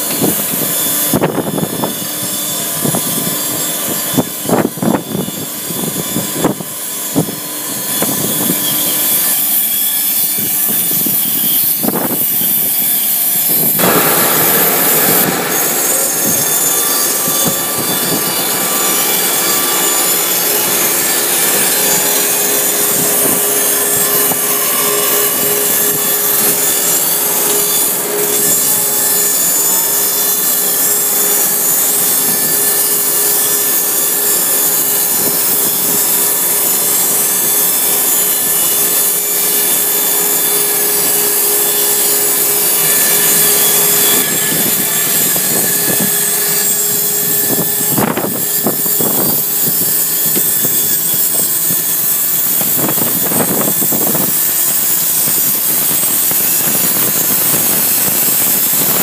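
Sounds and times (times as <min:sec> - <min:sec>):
band saw cutting log: 0:00.0 - 0:59.0
steady hum: 0:00.0 - 0:59.0.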